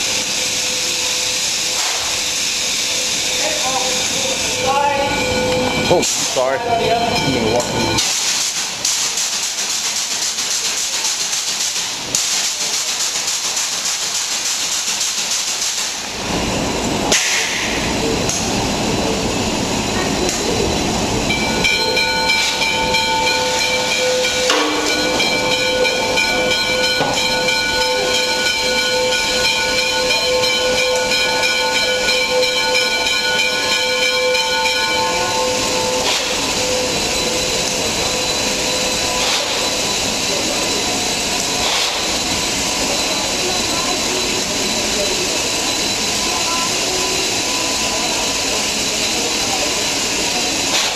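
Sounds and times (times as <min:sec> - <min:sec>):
steam locomotive hissing: 0:00.0 - 0:50.9.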